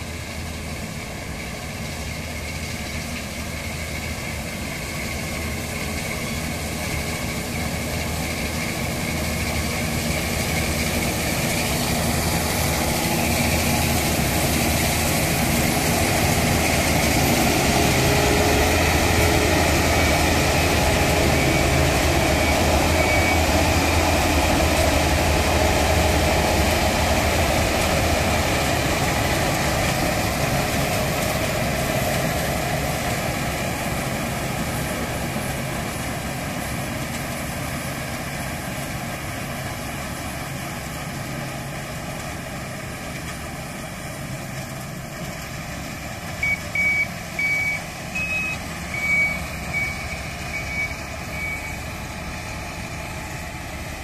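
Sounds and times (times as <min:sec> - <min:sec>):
combine harvester engine: 0:00.0 - 0:54.0.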